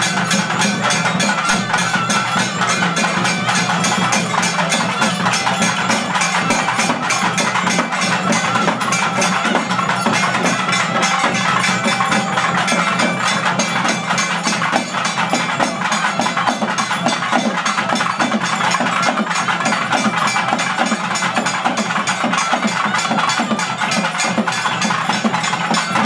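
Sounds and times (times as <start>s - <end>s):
barrel drums played with sticks: 0.0s - 26.0s.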